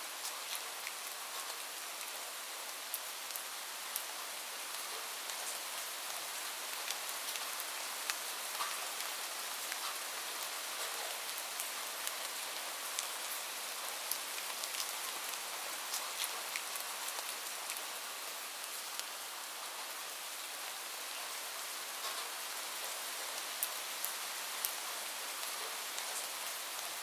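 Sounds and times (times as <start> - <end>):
light rain hiss: 0.0 - 27.0.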